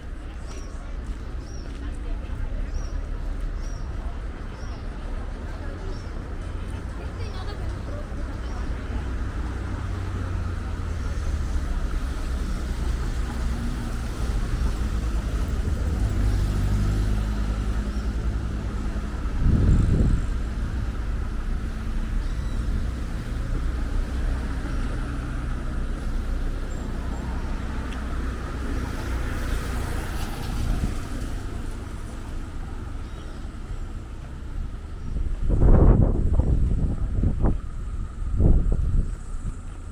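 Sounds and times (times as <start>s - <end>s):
engine hum: 0.0s - 39.9s
road traffic passing: 0.0s - 39.9s.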